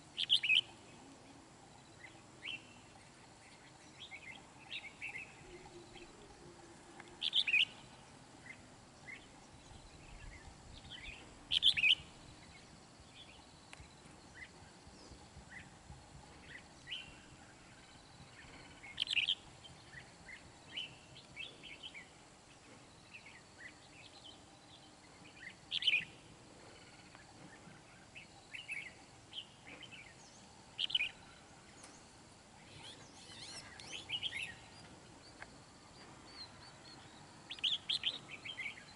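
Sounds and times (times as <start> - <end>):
bird calls: 0.0 - 38.9
soft bird chirps: 0.0 - 38.9.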